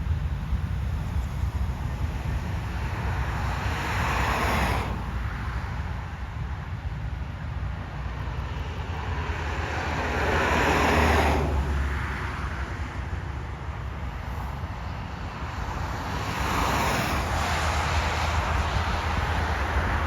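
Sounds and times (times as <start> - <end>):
low traffic rumble: 0.0 - 20.0
vehicles passing: 0.0 - 20.0.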